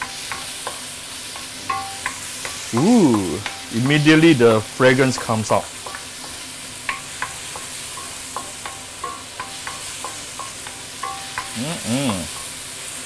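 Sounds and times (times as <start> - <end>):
spatula tapping metal wok: 0.0 - 4.4, 5.1 - 11.6
paste sizzling in oil: 0.0 - 13.0.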